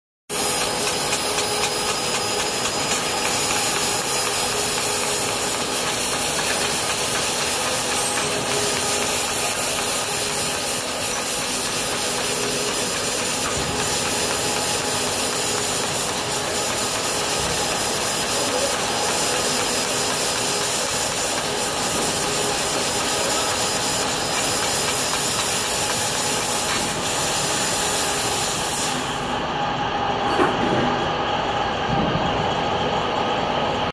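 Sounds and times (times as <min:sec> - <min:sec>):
laser cutting machine running: 0:00.3 - 0:33.9
hissing rush of assist gas: 0:00.4 - 0:29.4.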